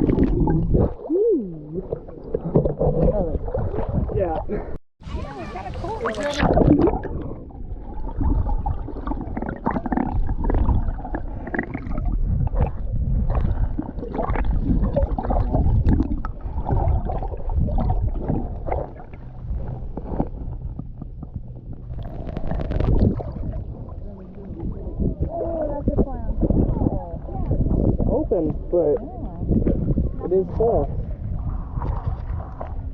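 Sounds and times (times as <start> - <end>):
low rumble: 0.0 - 32.9
water splashing and gurgling: 0.0 - 32.9.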